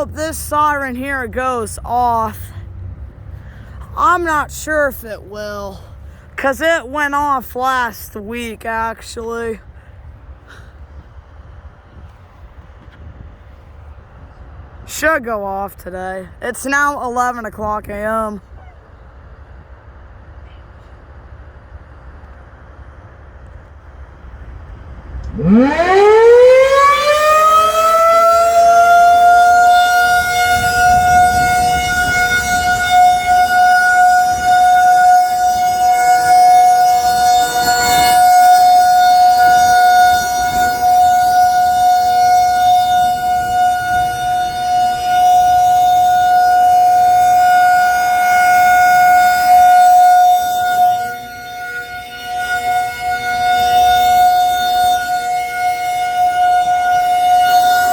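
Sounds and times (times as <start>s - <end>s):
rotating warning siren: 0.0s - 10.4s, 21.9s - 57.9s.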